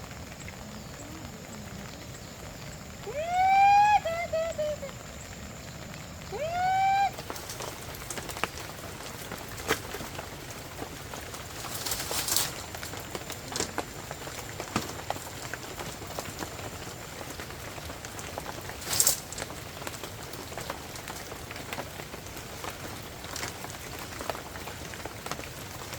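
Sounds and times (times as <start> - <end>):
heavy rain falling: 0.0 - 25.9
heavy raindrops striking close: 0.0 - 25.9.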